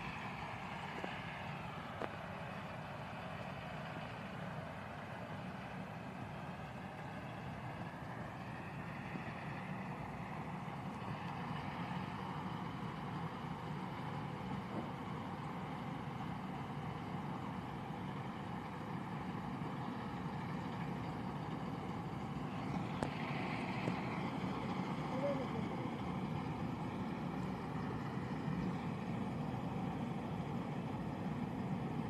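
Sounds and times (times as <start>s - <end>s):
windrower engine hum: 0.0s - 32.0s.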